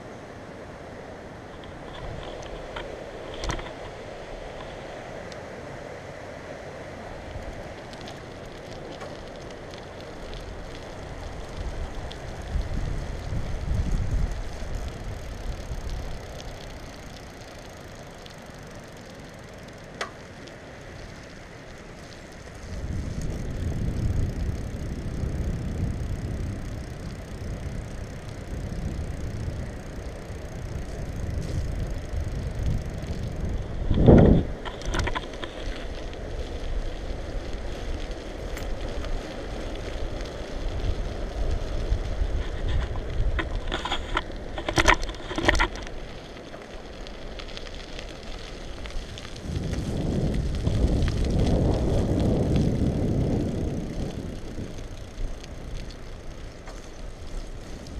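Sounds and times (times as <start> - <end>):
bicycle tyres on wet asphalt: 0.0 - 57.9
wind noise on microphone: 1.4 - 18.6, 20.9 - 57.9.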